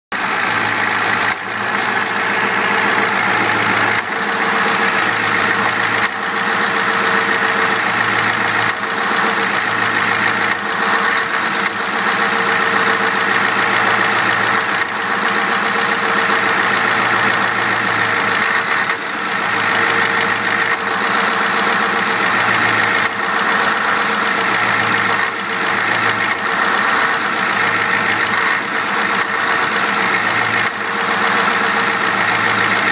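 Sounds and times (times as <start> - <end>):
diesel engine running unevenly: 0.1 - 32.9.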